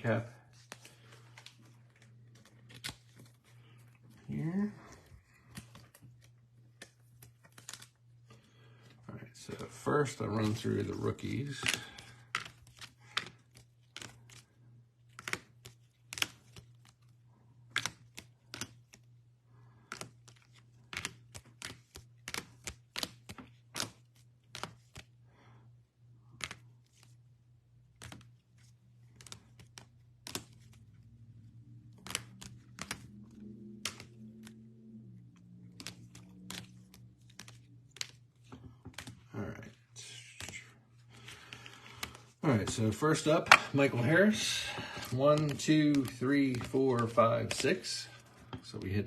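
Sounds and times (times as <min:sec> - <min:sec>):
cards clicking and tapping: 0:00.5 - 0:04.0, 0:04.8 - 0:08.9, 0:09.5 - 0:25.2, 0:26.0 - 0:27.2, 0:27.8 - 0:39.3, 0:40.2 - 0:49.0.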